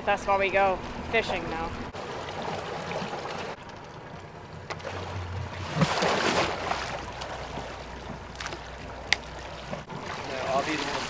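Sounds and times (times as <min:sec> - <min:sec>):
outboard engine hum: 0:00.0 - 0:11.0
water sloshing against boat: 0:00.0 - 0:11.0.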